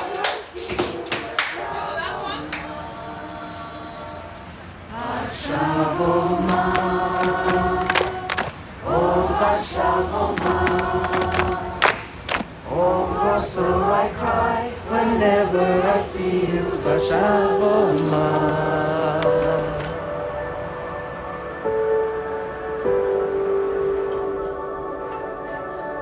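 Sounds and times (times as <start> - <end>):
group singing held chords: 0.0 - 26.0.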